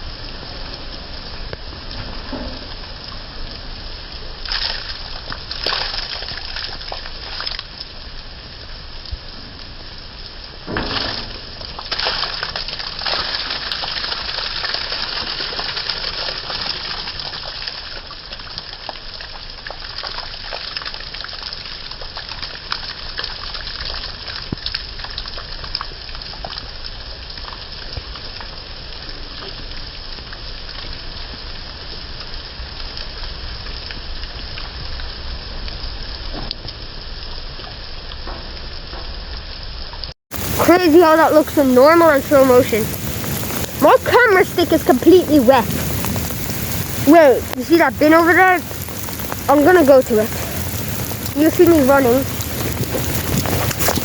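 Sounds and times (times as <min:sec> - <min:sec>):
heavy rain splashing on ground: 0:00.0 - 0:54.0.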